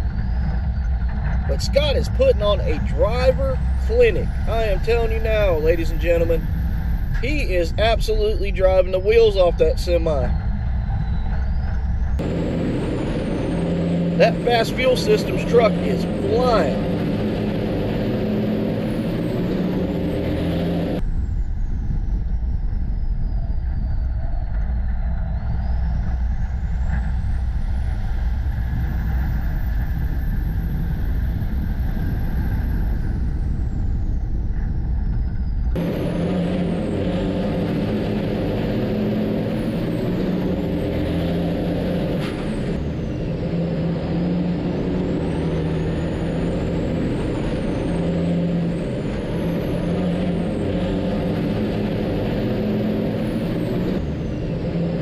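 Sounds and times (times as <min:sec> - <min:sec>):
onboard low engine rumble: 0:00.0 - 0:55.0
racing truck engines droning: 0:00.0 - 0:55.0.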